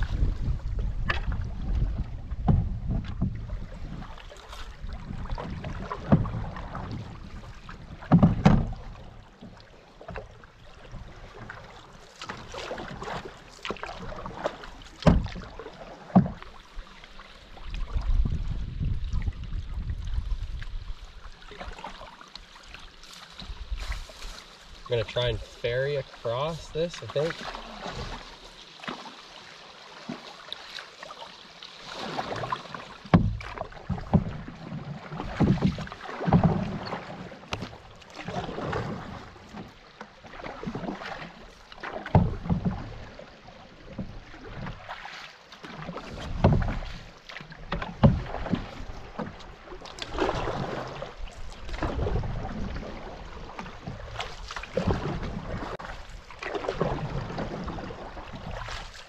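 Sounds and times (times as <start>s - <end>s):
canoe paddle strokes in water: 0.0s - 59.0s
water rushing: 0.0s - 59.0s.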